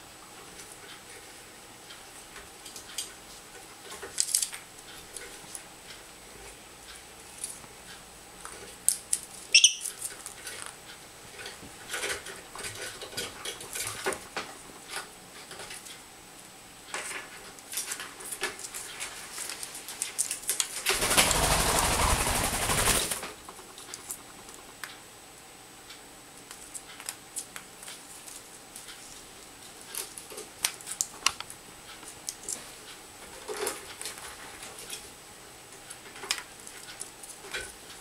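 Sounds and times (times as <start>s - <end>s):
parrot clicking and rustling on wicker: 0.4s - 5.7s, 8.4s - 16.0s, 16.9s - 24.9s, 26.4s - 35.1s, 35.7s - 38.0s.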